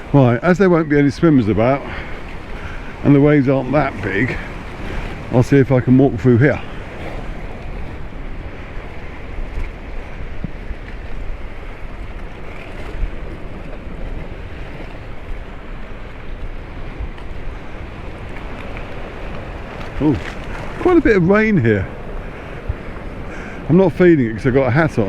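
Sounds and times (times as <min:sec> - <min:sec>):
sea waves breaking: 0:00.0 - 0:25.0
wind rumbling on microphone: 0:00.0 - 0:25.0.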